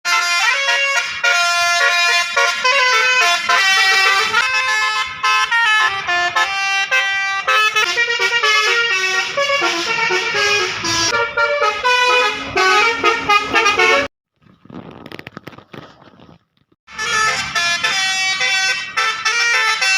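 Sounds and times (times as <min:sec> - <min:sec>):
bus air horn playing a tune: 0:00.1 - 0:14.1, 0:16.9 - 0:19.9.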